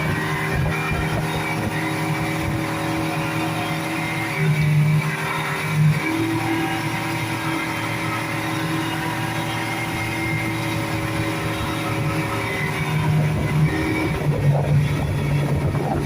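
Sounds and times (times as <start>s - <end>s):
rush of wind and water: 0.0s - 16.0s
speedboat engine hum: 0.0s - 16.0s.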